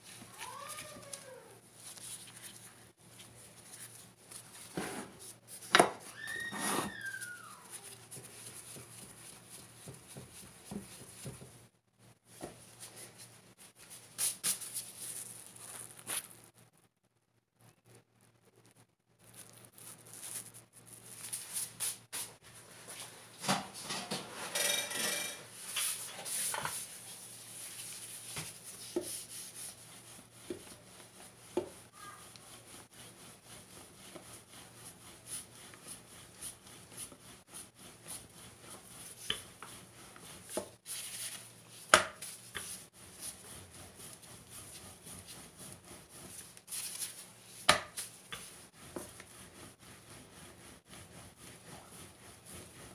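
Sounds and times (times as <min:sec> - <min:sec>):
rolling pin rolling dough: 0:00.0 - 0:16.6, 0:19.2 - 0:52.9.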